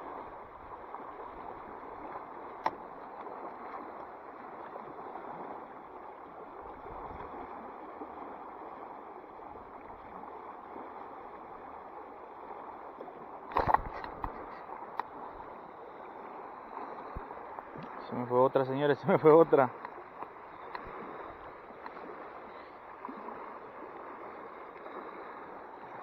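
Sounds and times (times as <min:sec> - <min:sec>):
creek water running: 0:00.0 - 0:26.0.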